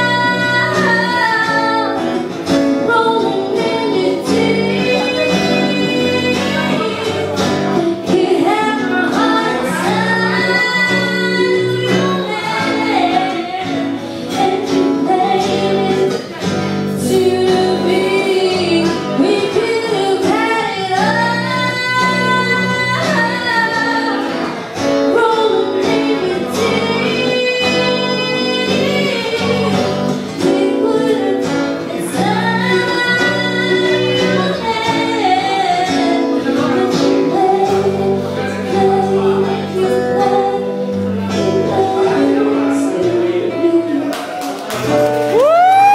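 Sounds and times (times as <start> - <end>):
woman singing into microphone: 0.0 - 44.4
acoustic guitar: 0.0 - 45.9.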